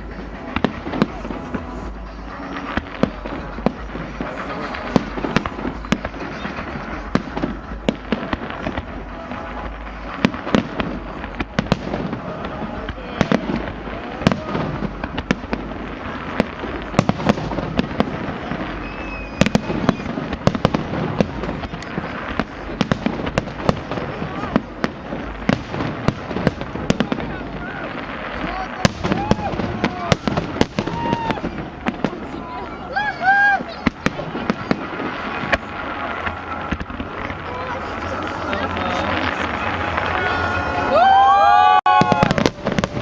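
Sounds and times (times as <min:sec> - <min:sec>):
fireworks bangs and crackles: 0:00.0 - 0:43.0.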